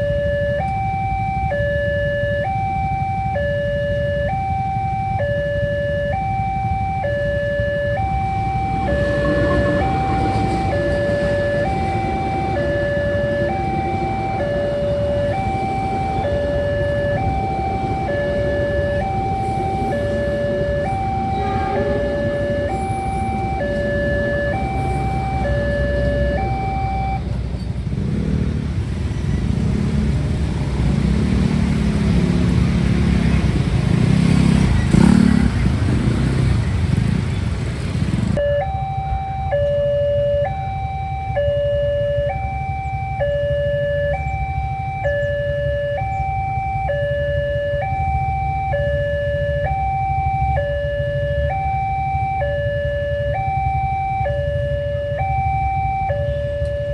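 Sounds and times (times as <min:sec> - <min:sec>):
level crossing alarm: 0:00.0 - 0:37.2, 0:37.9 - 0:56.9
road traffic rumble: 0:00.0 - 0:56.9
vehicle engines: 0:00.0 - 0:56.9.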